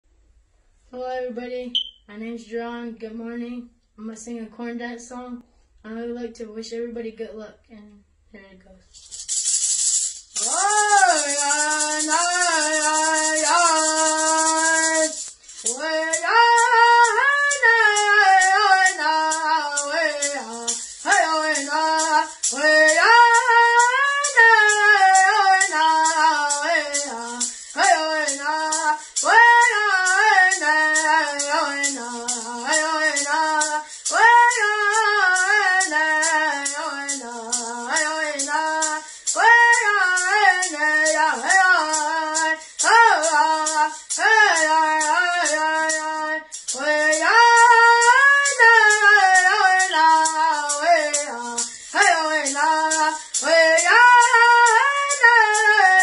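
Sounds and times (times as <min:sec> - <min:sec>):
boy singing: 0:01.0 - 0:56.0
hand rattle shaken: 0:08.8 - 0:56.0.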